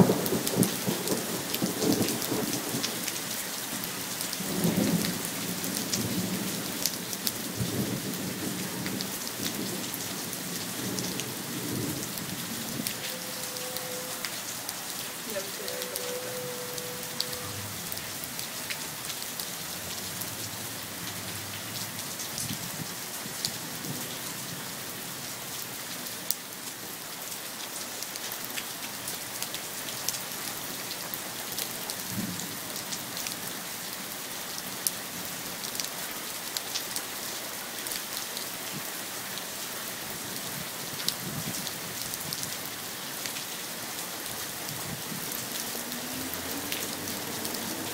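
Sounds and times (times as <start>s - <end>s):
rain falling on pavement: 0.0s - 47.9s.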